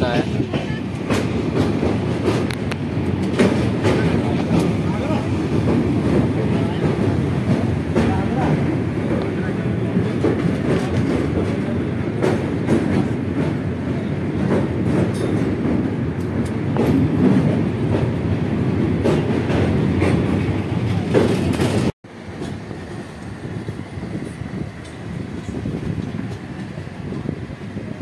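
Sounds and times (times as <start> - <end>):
wheels clacking over rail joints: 0.0 - 23.3
train rumble: 0.0 - 28.0.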